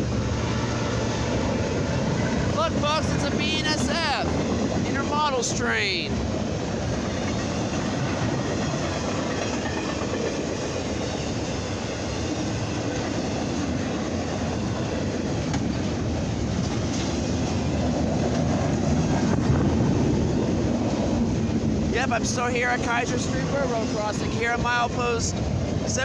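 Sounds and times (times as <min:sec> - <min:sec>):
freight train wheels on rail: 0:00.0 - 0:26.0
clickety-clack over rail joints: 0:00.4 - 0:26.0.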